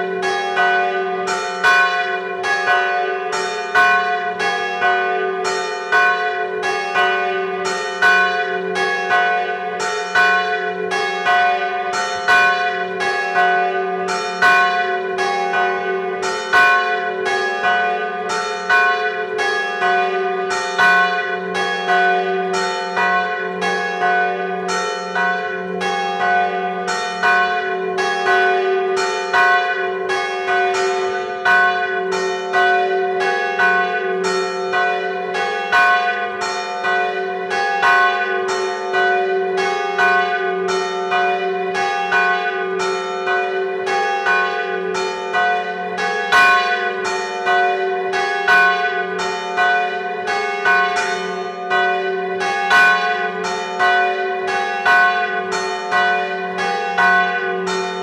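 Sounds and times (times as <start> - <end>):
large church bell tolling: 0.0 - 58.0
low hum of ringing bells: 0.0 - 58.0
smaller bells striking: 0.0 - 58.0.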